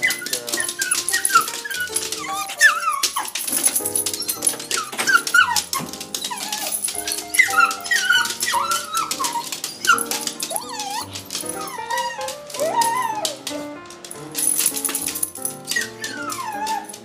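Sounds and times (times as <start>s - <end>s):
dog whining yowls: 0.0s - 13.6s, 15.0s - 17.0s
music with held notes: 0.0s - 17.0s.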